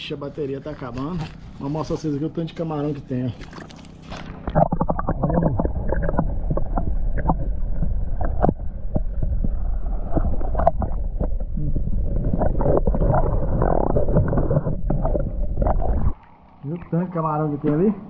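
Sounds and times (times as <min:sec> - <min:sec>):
muffled underwater rumble: 0:00.6 - 0:18.0.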